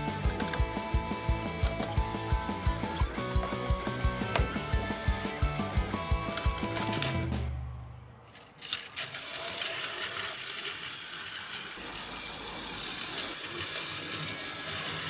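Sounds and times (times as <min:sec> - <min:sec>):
toy train motor whirring: 0:00.0 - 0:07.2, 0:08.3 - 0:15.0.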